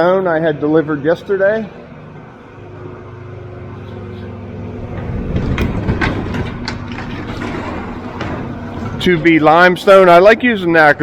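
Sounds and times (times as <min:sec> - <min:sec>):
earthmoving machine engine running: 0:00.9 - 0:10.6.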